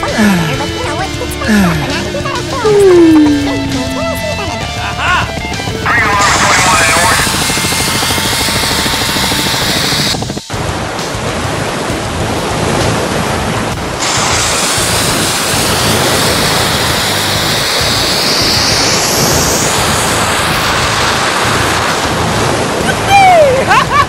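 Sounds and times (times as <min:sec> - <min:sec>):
rushing churning water: 0:00.0 - 0:24.0.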